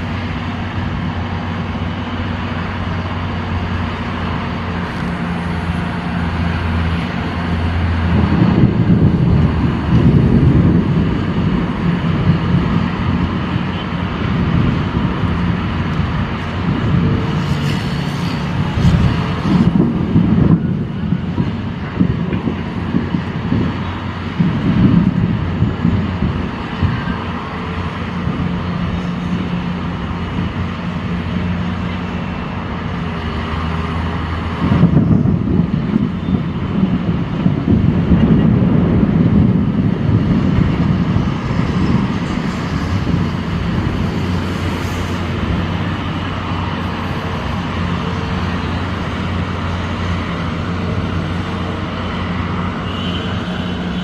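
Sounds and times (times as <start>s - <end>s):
road noise: 0.0s - 54.0s
vehicle engines humming: 0.0s - 54.0s.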